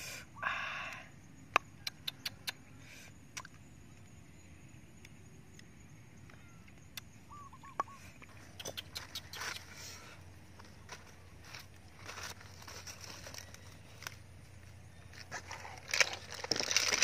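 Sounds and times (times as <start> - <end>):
bird chirp: 0.3 - 16.3.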